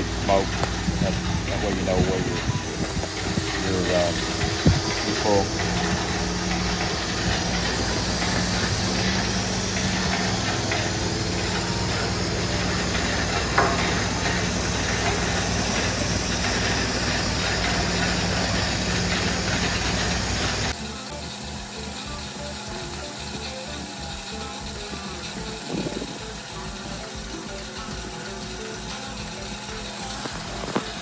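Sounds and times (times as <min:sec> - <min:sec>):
gas hissing from tank gauge: 0:00.0 - 0:31.0
pump engine humming: 0:00.0 - 0:31.0.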